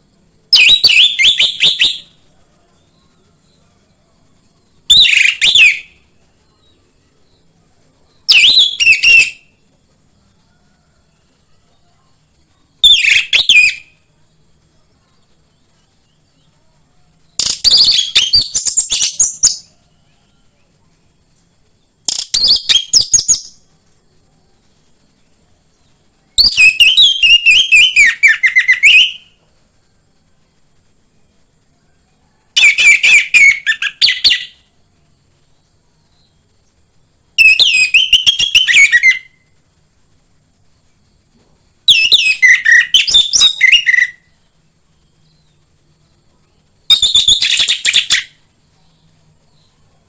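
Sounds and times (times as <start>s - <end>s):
faint high hiss: 0.0s - 50.0s.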